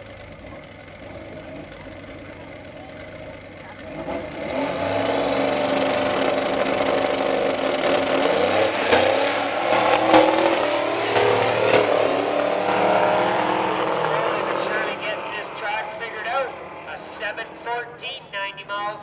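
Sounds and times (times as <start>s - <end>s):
drag cars accelerating hard: 0.0s - 19.0s.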